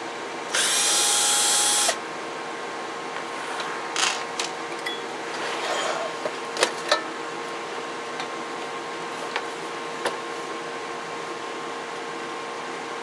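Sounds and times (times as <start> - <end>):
steady hum with faint tone: 0.0 - 13.0.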